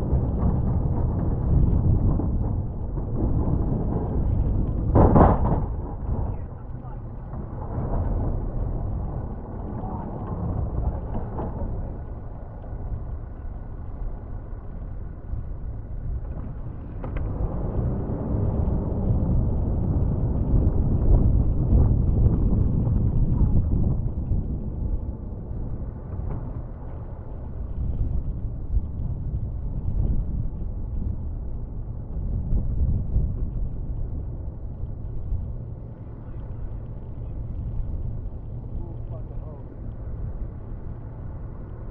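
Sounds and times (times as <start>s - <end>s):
truck engine rumbling: 0.0s - 41.9s.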